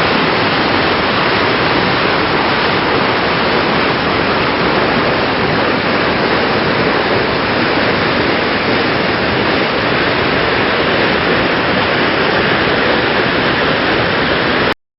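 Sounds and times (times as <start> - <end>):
waterfall rushing: 0.0 - 14.8.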